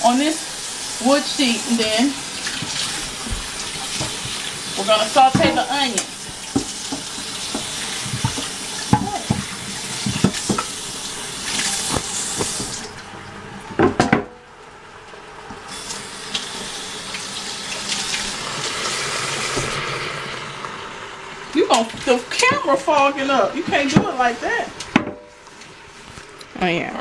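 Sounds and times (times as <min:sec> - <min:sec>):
meat sizzling in a pan: 0:00.0 - 0:12.8, 0:15.7 - 0:25.0.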